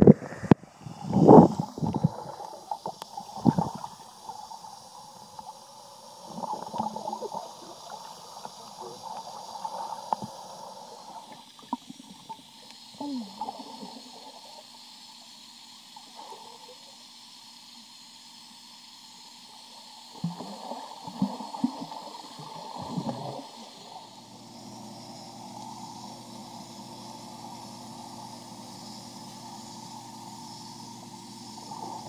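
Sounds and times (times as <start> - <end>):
muffled underwater gurgling: 0.0 - 4.6, 5.5 - 14.8, 16.0 - 17.0, 20.2 - 32.0.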